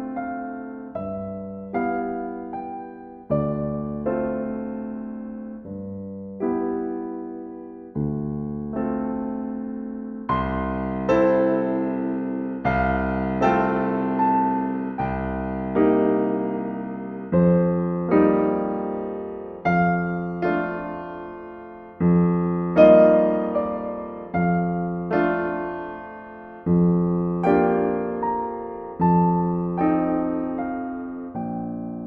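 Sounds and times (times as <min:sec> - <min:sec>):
slow gentle solo piano: 0:00.0 - 0:32.0.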